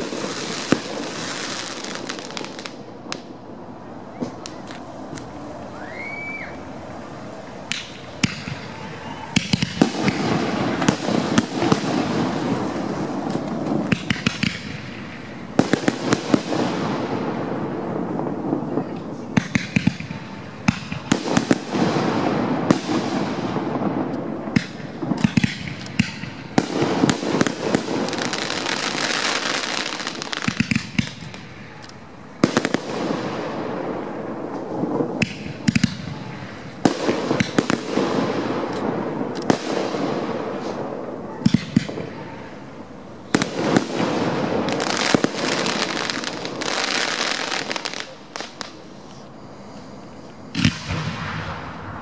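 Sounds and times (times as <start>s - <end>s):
continuous noisy wash: 0.0s - 52.0s
fireworks bangs: 0.0s - 52.0s.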